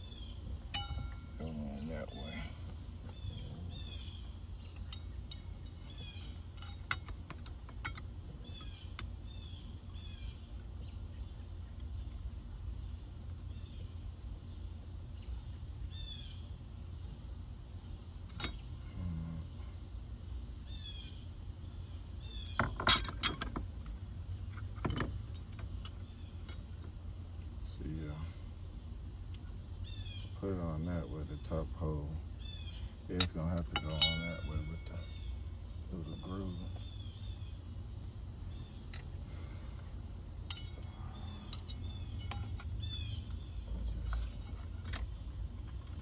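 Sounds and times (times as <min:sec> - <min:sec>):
high insect drone: 0:00.0 - 0:46.0
insect chirps: 0:00.0 - 0:46.0.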